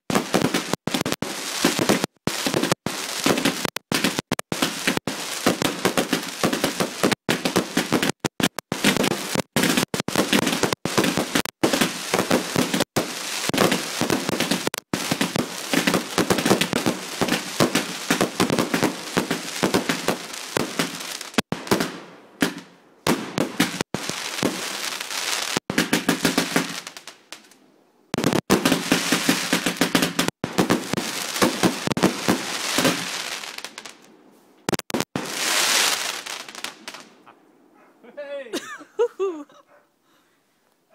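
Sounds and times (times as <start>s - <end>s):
fireworks crackling: 0.0s - 37.3s.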